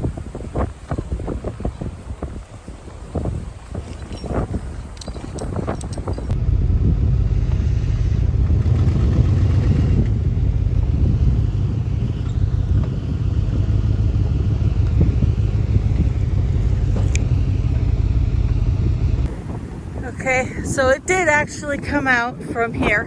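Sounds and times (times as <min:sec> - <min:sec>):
engine rumbling: 0:00.7 - 0:23.0.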